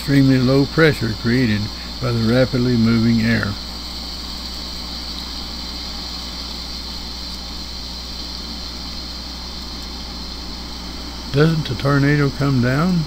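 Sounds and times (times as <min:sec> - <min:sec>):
recording hum and hiss: 0:00.0 - 0:13.0.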